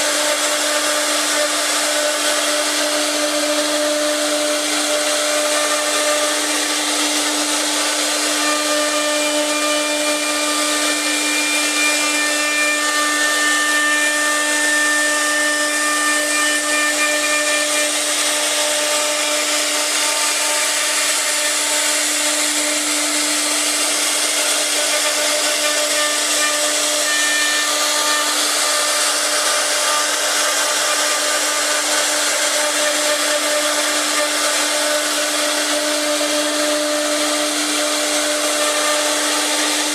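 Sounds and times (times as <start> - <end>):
bit cutting wood: 0.0 - 39.9
router spindle whining: 0.0 - 39.9.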